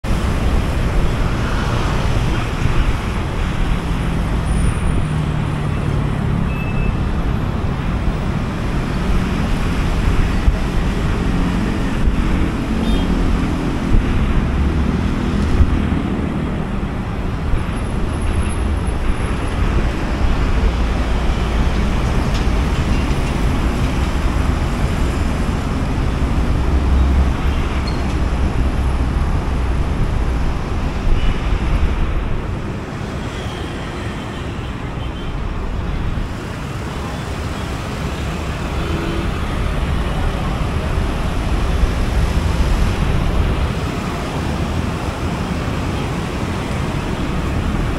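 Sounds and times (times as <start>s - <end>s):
rumble of traffic engines: 0.0s - 47.9s.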